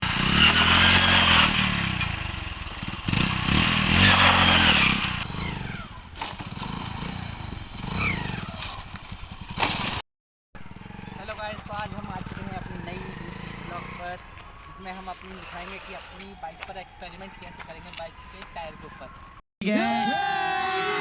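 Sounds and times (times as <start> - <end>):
motorcycle engine revving: 0.0 - 10.0, 10.6 - 18.3.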